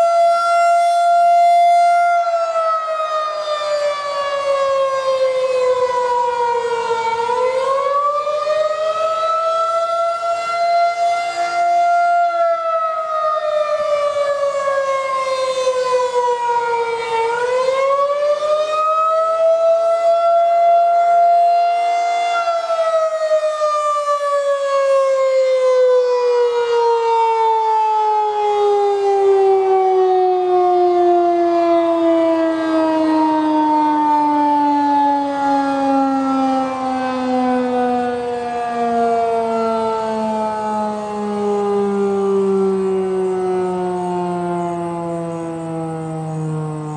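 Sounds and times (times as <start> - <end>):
warning siren wailing: 0.0 - 46.9.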